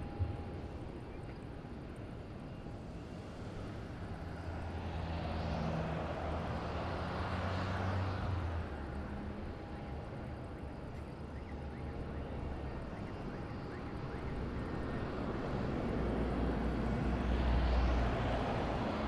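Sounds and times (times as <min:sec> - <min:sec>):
jet engine rumble and hiss: 0:00.0 - 0:07.6, 0:08.6 - 0:19.0.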